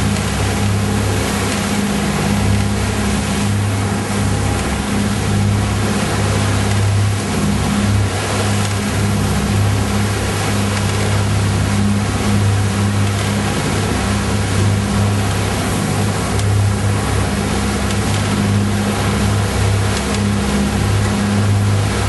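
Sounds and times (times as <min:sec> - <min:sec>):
boat engine droning: 0:00.0 - 0:22.0
rushing wind and water: 0:00.0 - 0:22.0.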